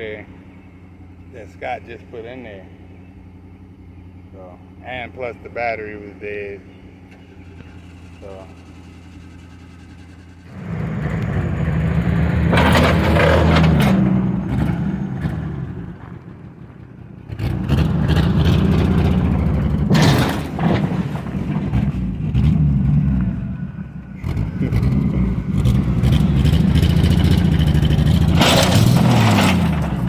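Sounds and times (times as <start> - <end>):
pickup engine idling and revving: 0.0 - 30.0.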